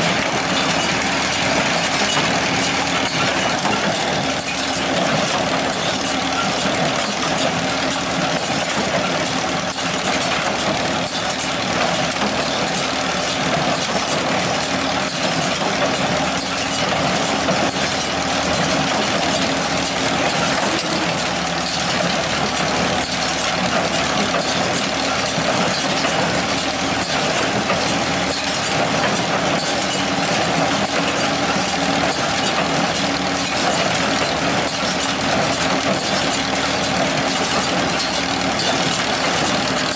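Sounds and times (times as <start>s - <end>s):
hay baler engine humming: 0.0s - 39.9s.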